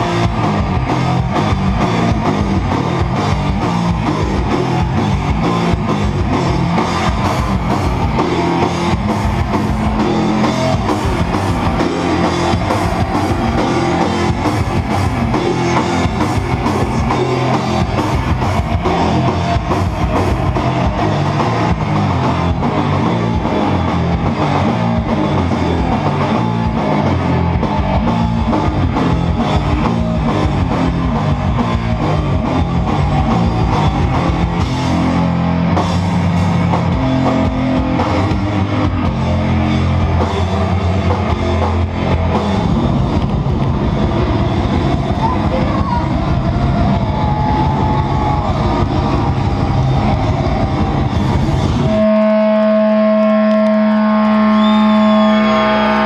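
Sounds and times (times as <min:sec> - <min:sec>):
metal band playing live: 0:00.0 - 0:56.0.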